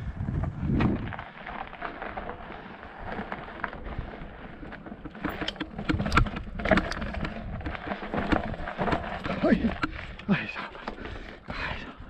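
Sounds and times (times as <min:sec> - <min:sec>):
bike rattling over rocks: 0:00.5 - 0:12.0.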